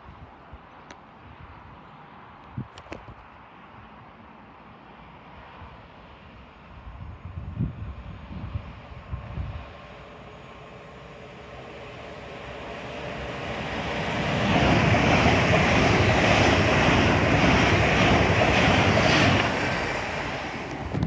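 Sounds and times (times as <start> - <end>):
train passing: 3.5 - 21.0.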